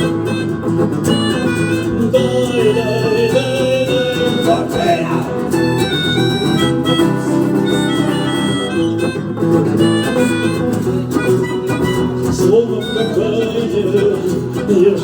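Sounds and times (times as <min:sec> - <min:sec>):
rock band instrumental: 0:00.0 - 0:12.8.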